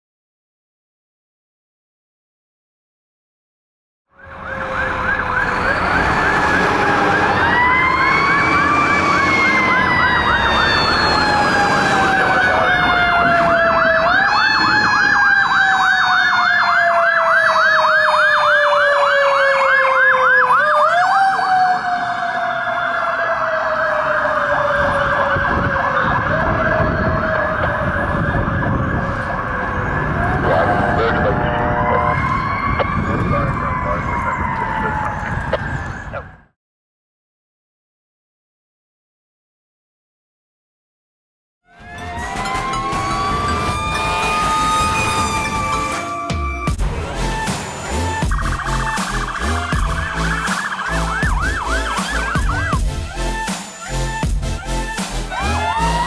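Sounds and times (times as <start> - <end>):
fast warbling siren yelp: 4.1 - 36.6, 41.6 - 56.0
wailing siren tone: 4.1 - 36.6, 41.6 - 56.0.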